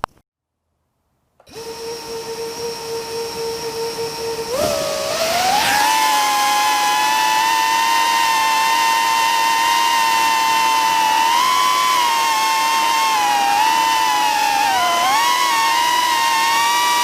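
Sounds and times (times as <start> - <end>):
drone propellers whining: 1.5 - 17.0.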